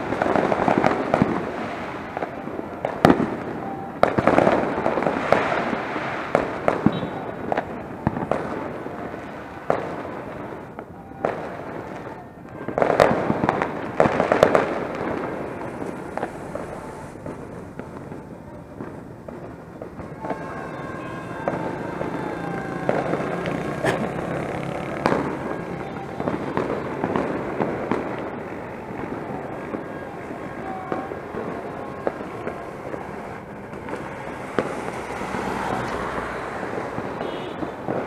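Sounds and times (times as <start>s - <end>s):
firecracker crackling volleys: 0.0s - 38.0s
firework bangs: 0.0s - 38.0s.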